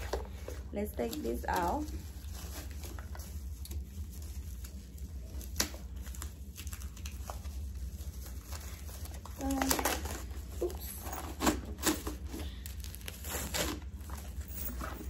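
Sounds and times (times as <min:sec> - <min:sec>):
steady low hum: 0:00.0 - 0:15.0
wrapping rustling and crinkling: 0:00.0 - 0:15.0.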